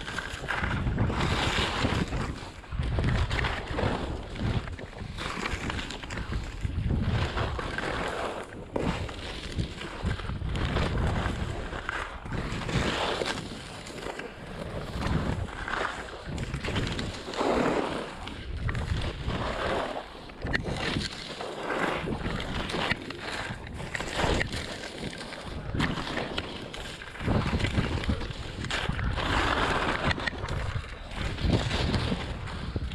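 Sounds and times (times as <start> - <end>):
skis scraping over snow: 0.0 - 32.9
wind noise on microphone: 0.0 - 32.9.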